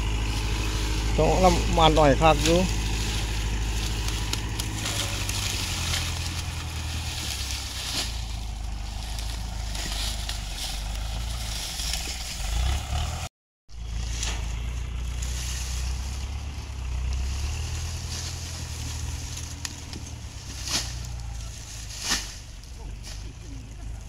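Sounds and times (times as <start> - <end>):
dry stalks rustling and crackling: 0.0 - 24.0
vehicle engine running: 0.0 - 24.0.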